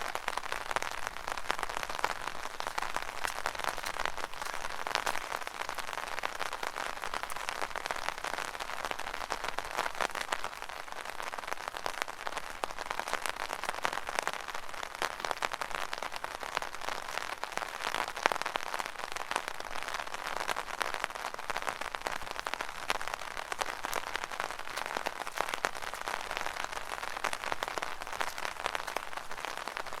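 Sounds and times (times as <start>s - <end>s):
rain falling on an umbrella: 0.0s - 30.0s.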